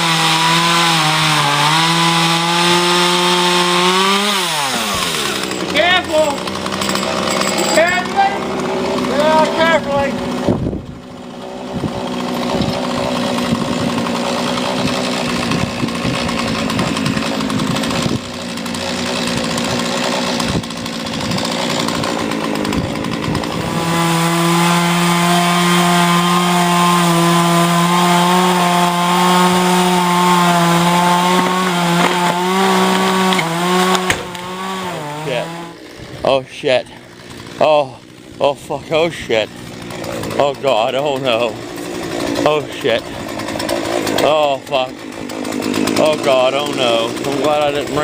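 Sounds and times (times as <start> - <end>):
chainsaw cutting: 0.0 - 48.0.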